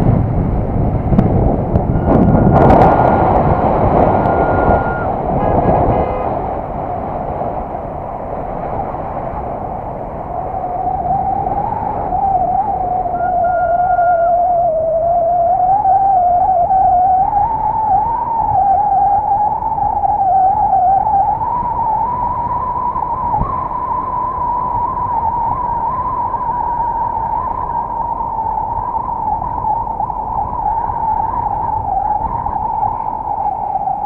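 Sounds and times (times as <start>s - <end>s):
car road noise: 0.0s - 34.0s
turbocharger whistle: 1.8s - 6.4s, 10.4s - 34.0s.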